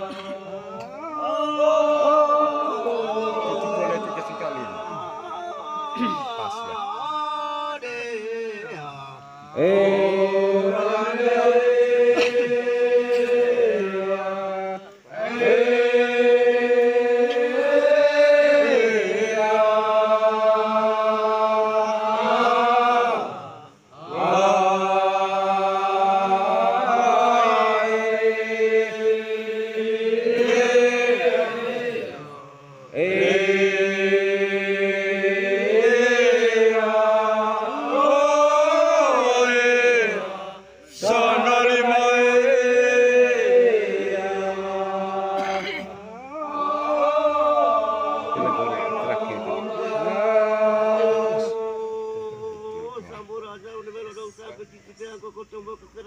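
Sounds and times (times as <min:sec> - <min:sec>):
men chanting in unison: 0:00.0 - 0:54.8.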